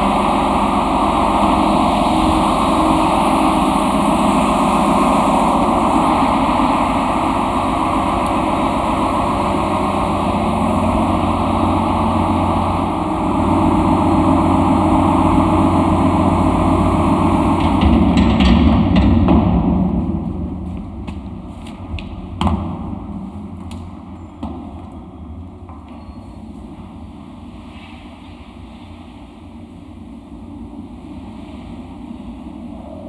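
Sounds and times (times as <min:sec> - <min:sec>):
engine-room machinery drone: 0:00.0 - 0:33.0.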